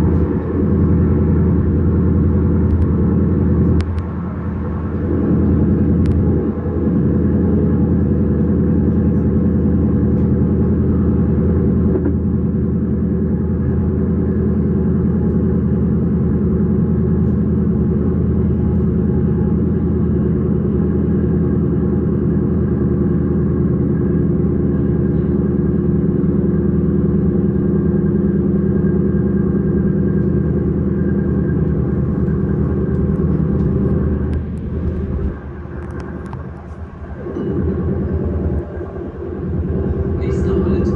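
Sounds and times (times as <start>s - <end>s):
electric train drone: 0.0s - 40.9s
train rolling rumble: 0.0s - 40.9s.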